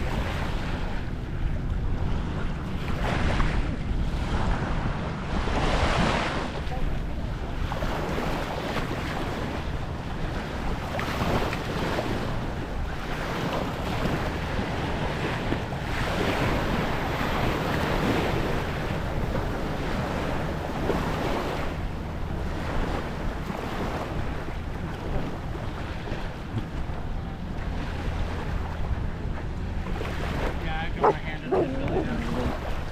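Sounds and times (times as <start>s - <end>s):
small waves washing onto shore: 0.0s - 32.9s
wind rumbling on microphone: 0.0s - 32.9s.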